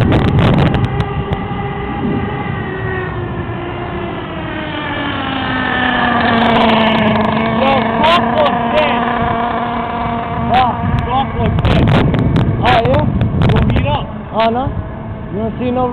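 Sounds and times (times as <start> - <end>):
loud rush of noise: 0.0 - 3.6, 5.5 - 15.9
small nitro engine running: 0.0 - 15.9.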